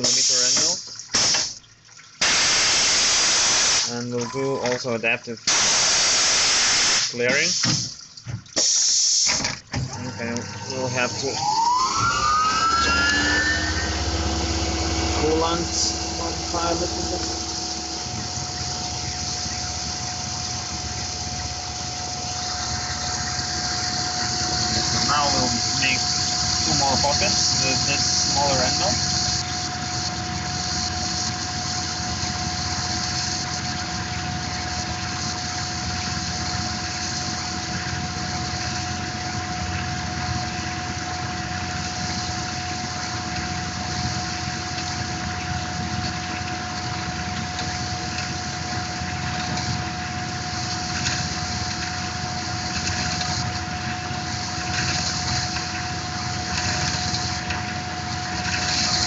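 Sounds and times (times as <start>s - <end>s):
coolant splashing: 0.0s - 59.0s
milling spindle whine: 9.8s - 59.0s.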